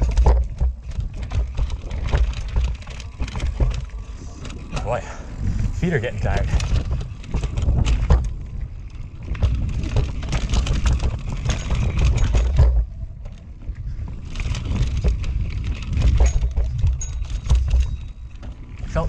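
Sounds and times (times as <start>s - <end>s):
bike knocking and rattling: 0.0s - 19.0s
bike tyres rumbling over rocks: 0.0s - 19.0s.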